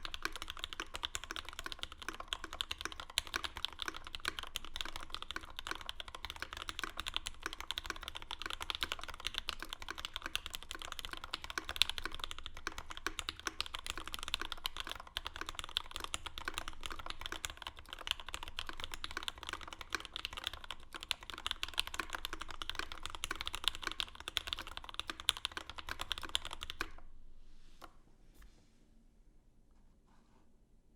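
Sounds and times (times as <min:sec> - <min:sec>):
mechanical keyboard typing: 0:00.0 - 0:27.0.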